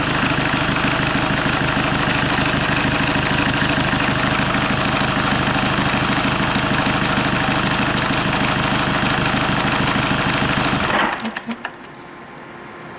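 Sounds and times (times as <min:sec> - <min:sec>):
diesel engine idling: 0:00.0 - 0:11.1.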